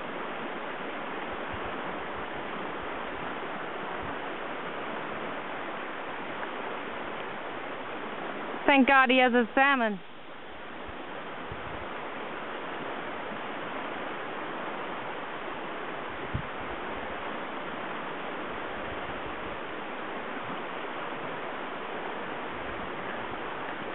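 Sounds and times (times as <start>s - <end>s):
river water rushing: 0.0s - 23.9s.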